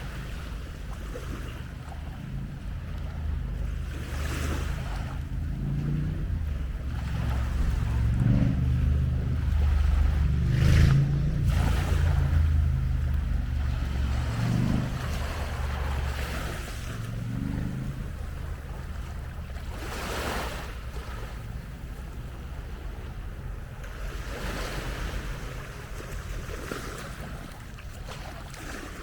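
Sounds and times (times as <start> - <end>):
waves washing onto beach: 0.0 - 29.0
wind rumbling on microphone: 0.0 - 29.0.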